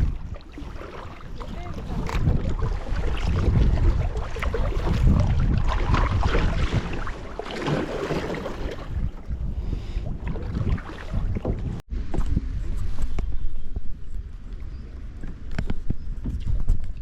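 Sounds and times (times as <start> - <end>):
water splashing around kayak: 0.0 - 17.0
wind rumble on microphone: 0.0 - 17.0.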